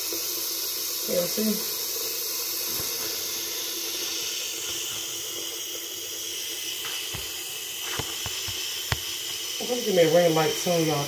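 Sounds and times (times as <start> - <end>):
faucet water splashing into sink: 0.0 - 11.0.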